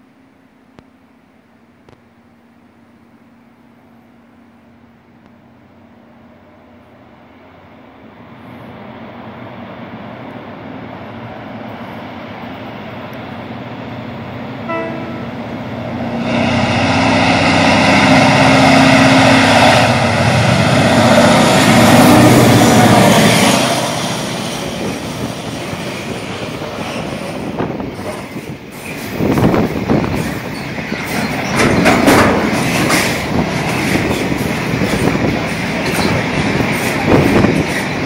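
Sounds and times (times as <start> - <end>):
diesel locomotive engine running: 2.4 - 38.0.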